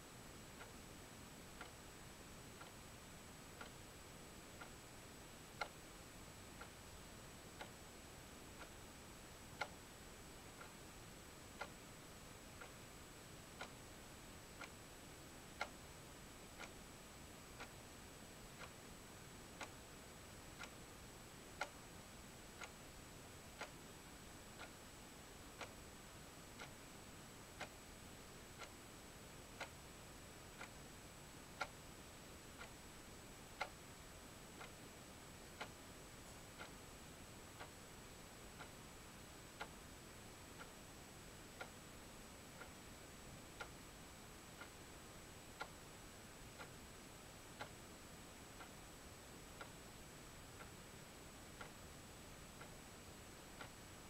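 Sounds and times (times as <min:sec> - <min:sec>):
clock ticking: 0:00.4 - 0:54.0.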